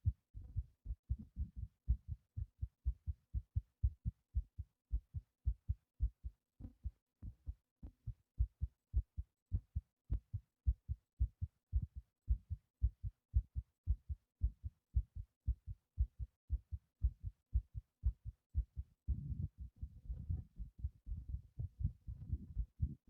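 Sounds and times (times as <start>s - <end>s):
heartbeat thumps: 0.0s - 23.0s.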